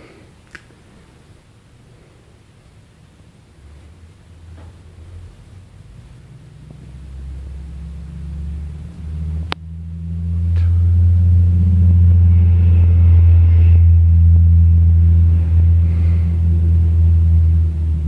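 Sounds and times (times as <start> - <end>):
ceiling fan air rumble: 0.0 - 18.0.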